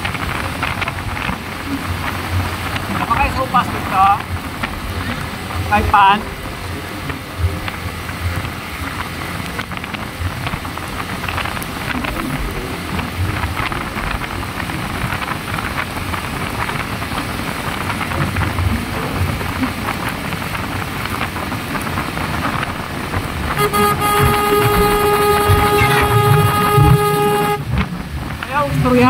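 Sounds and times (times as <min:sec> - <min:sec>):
motorcycle engine and tyres rumbling: 0:00.0 - 0:29.0
wind and road noise: 0:00.0 - 0:29.0.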